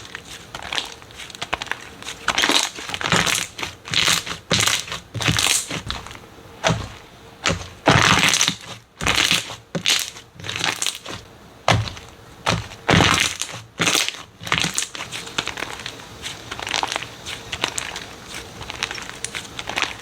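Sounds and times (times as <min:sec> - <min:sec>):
slime crackling when squeezed: 0:00.0 - 0:06.8, 0:07.4 - 0:12.0, 0:12.6 - 0:20.0.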